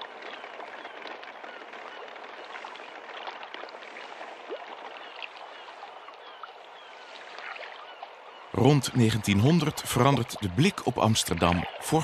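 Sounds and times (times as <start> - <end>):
canal water flowing and lapping: 0.0 - 12.0.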